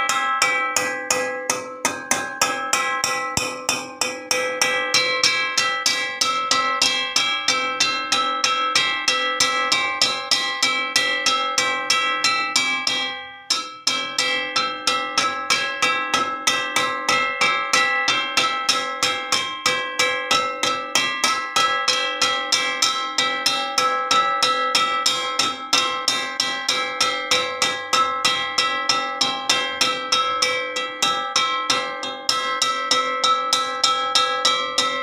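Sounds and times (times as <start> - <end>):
metal wok struck ringing: 0.0 - 35.0.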